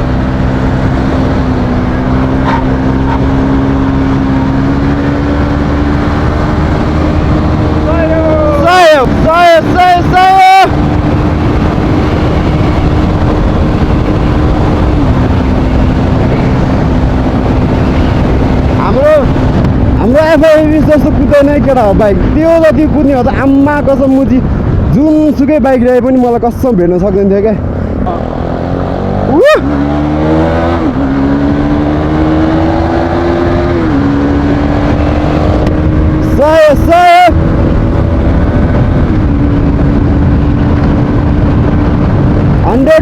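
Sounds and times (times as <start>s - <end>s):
motorcycle engine running: 0.0s - 24.9s, 27.5s - 43.0s
wind rush on microphone: 0.0s - 43.0s.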